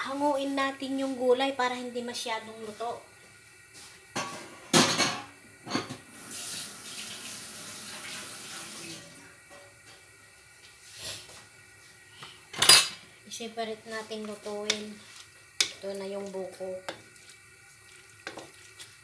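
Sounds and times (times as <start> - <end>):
tap water running: 2.3 - 19.0.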